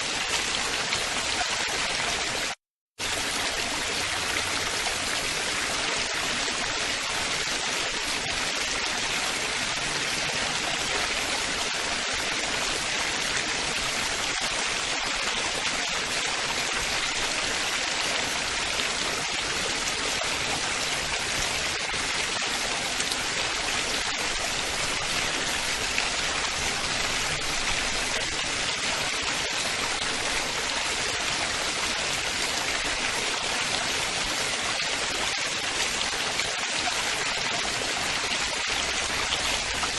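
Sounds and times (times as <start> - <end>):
water splashing and babbling: 0.0 - 39.9.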